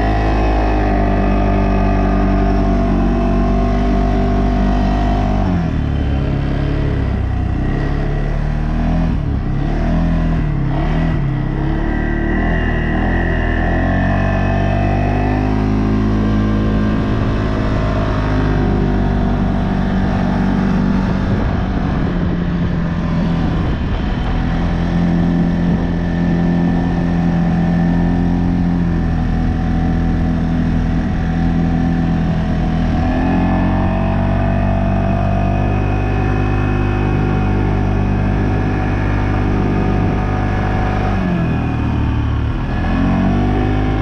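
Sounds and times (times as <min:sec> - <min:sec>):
atv engine revving: 0:00.0 - 0:44.0.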